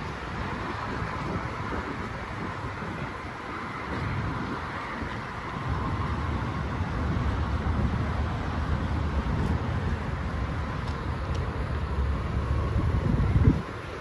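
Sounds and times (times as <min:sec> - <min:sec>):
outdoor background hiss: 0:00.0 - 0:14.0
wind buffeting microphone: 0:00.0 - 0:14.0.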